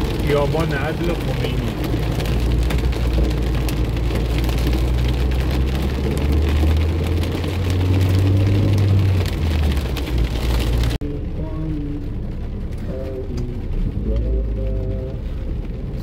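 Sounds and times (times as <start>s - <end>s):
car engine low rumble: 0.0s - 16.0s
heavy rain on car roof: 0.0s - 16.0s.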